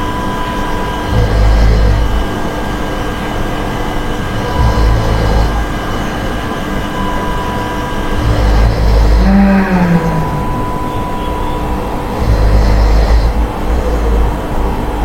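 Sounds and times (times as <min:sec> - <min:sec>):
deep low snores: 0:00.5 - 0:15.0.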